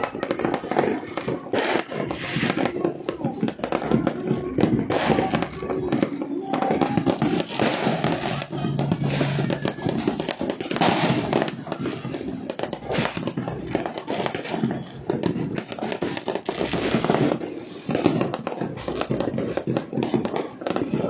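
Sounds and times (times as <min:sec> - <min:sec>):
fireworks popping and banging: 0:00.0 - 0:21.0.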